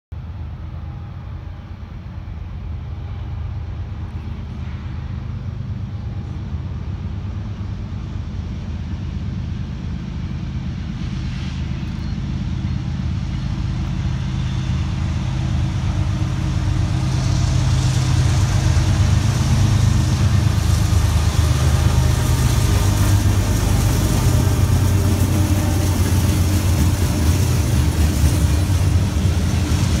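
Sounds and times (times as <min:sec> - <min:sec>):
locomotive engine drone: 0:00.2 - 0:30.0
wheels hissing on rail: 0:00.2 - 0:30.0.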